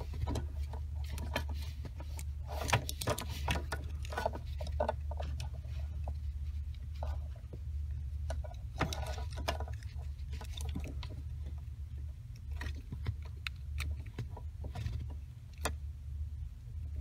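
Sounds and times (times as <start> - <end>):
wiring harness rustling: 0.0 - 15.4
steady low hum: 0.0 - 17.0.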